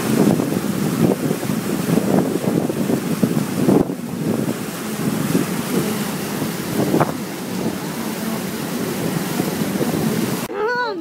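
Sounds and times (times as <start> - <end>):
wind buffeting microphone: 0.0 - 10.5
boat wake rushing: 0.0 - 11.0.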